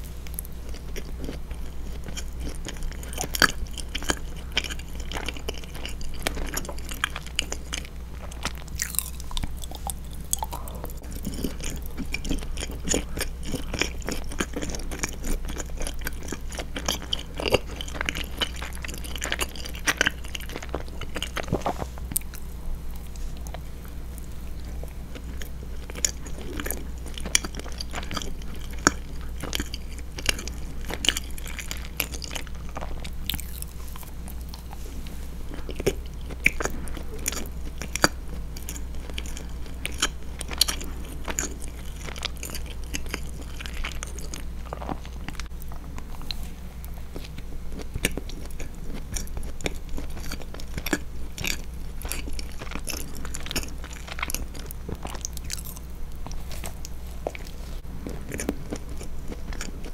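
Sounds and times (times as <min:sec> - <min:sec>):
close chewing with mouth clicks: 0:00.0 - 0:59.9.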